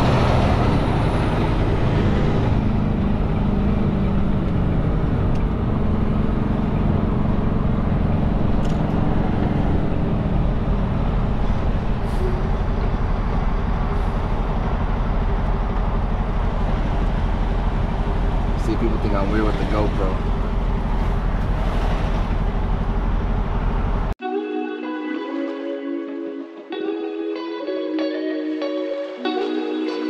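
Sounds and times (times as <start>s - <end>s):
diesel truck engine driving: 0.0s - 24.2s
road noise: 0.0s - 24.2s.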